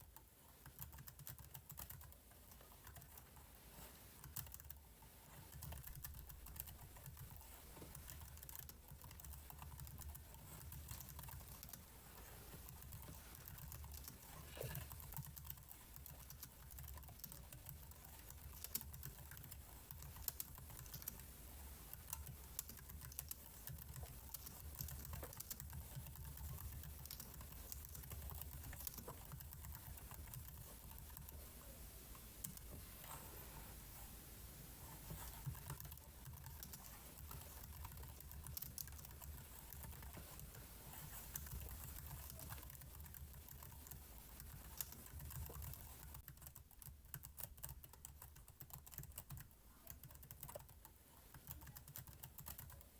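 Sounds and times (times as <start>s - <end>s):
low steady hum: 0.0s - 46.8s.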